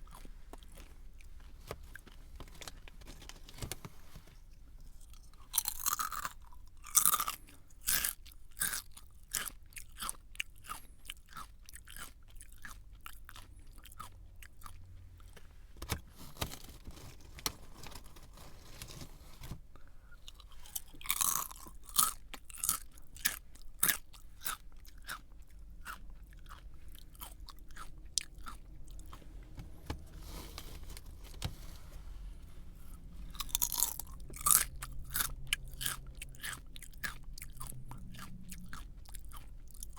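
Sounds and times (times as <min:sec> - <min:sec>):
person chewing crunchy snack: 0:00.0 - 0:03.1, 0:04.6 - 0:29.5, 0:32.8 - 0:39.9.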